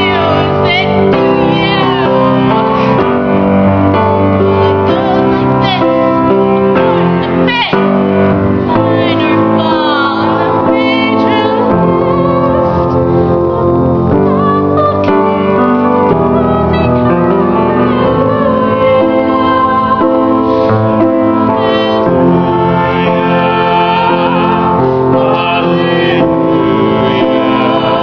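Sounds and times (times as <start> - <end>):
acoustic guitar: 0.0 - 28.0
piano playing slow chords: 0.0 - 28.0.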